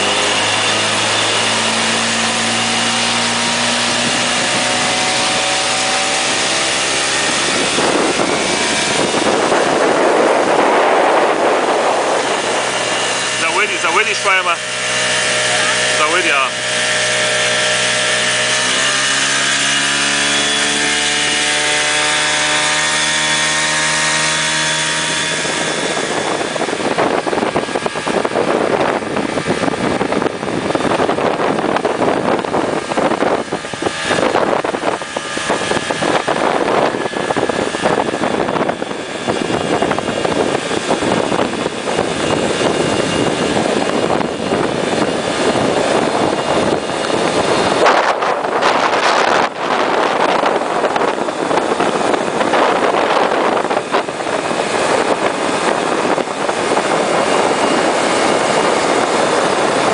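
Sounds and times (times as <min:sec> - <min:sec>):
rush of wind and water: 0:00.0 - 0:59.9
speedboat engine accelerating: 0:00.0 - 0:59.9.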